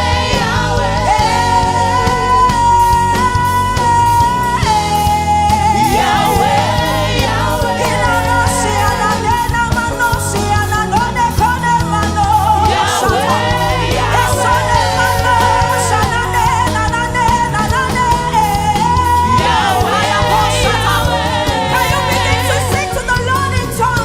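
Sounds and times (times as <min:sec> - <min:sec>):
gospel singing over a band: 0:00.0 - 0:24.0.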